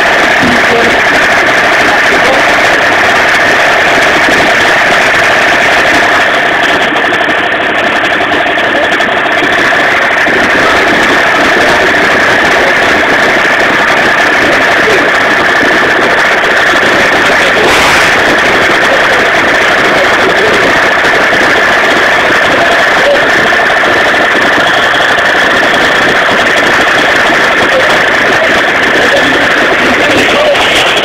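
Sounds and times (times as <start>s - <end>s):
moped engine whining: 0.0s - 31.0s.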